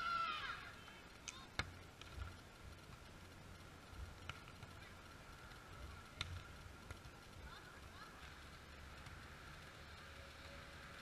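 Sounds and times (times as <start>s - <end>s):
faint ticks: 0.8s - 11.0s.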